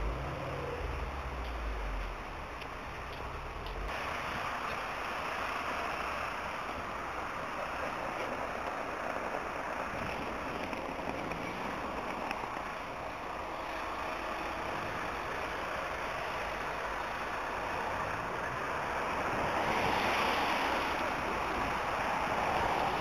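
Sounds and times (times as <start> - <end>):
tyres hissing on wet road: 0.0 - 23.0.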